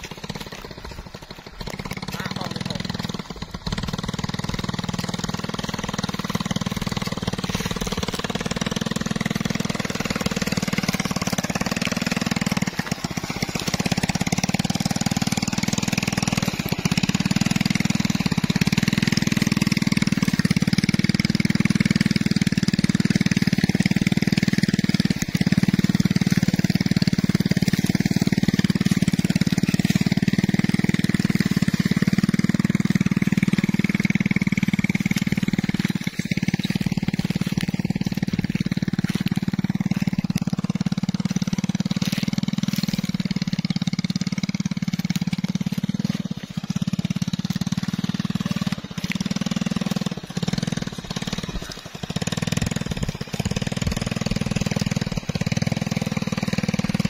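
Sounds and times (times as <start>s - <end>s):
small motorcycle engine running: 0.0s - 57.0s.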